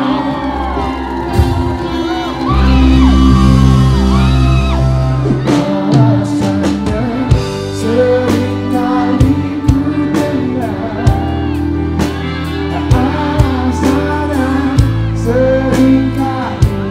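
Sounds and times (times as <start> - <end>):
keyboard and bass notes: 0.0 - 16.9
person singing: 0.0 - 16.9.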